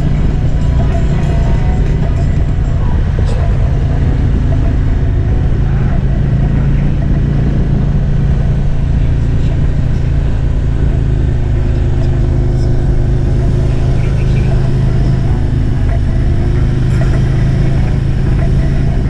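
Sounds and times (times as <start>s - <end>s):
motorcycle engine cruising: 0.0s - 19.0s
wind and road rumble: 0.0s - 19.0s.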